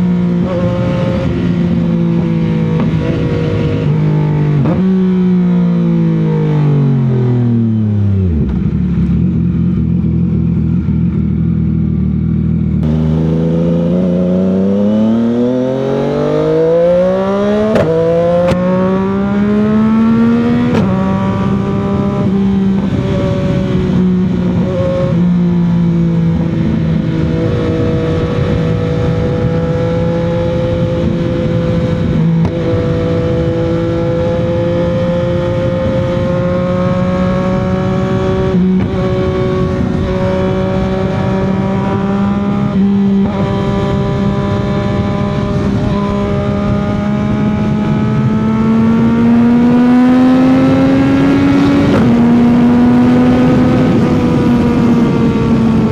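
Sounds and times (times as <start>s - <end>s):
motorcycle engine cruising: 0.0s - 55.9s
wind and road rush: 0.0s - 55.9s.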